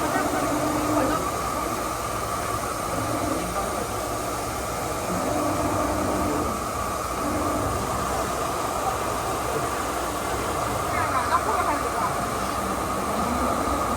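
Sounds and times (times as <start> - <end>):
printer whirring hiss: 0.0 - 13.9.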